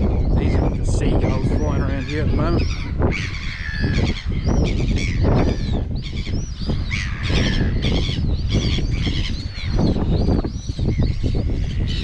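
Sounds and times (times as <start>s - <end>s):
seabirds calling: 0.0s - 12.0s
wind buffeting microphone: 0.0s - 12.0s.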